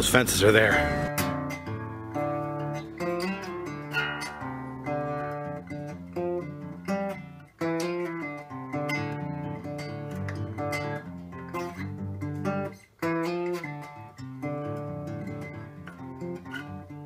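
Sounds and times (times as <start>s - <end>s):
acoustic guitar playing: 0.6s - 17.0s.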